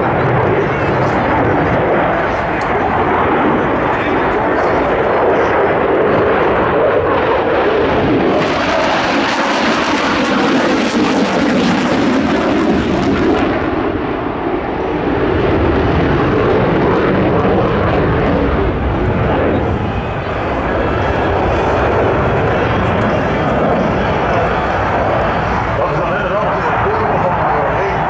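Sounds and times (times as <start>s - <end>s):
jet engines with afterburners: 0.0s - 28.0s.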